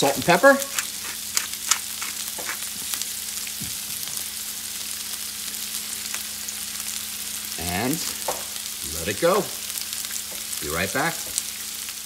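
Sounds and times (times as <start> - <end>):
oil crackling and popping: 0.0 - 12.0
peppers sizzling in oil: 0.0 - 12.0.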